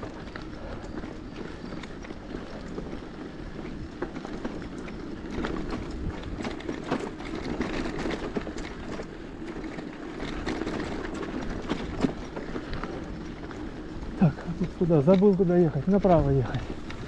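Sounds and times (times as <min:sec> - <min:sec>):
bicycle tyre rolling on dirt: 0:00.0 - 0:17.0
bike clicks and rattles: 0:00.0 - 0:17.0.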